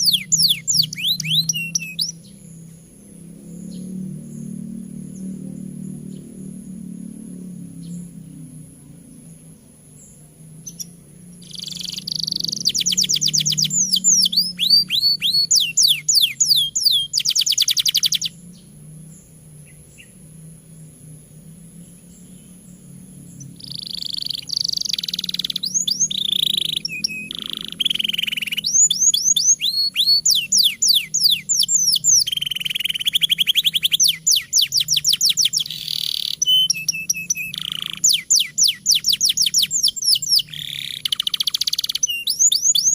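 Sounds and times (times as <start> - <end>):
canary singing trills: 0.0 - 42.9
faint low hum: 0.0 - 42.9.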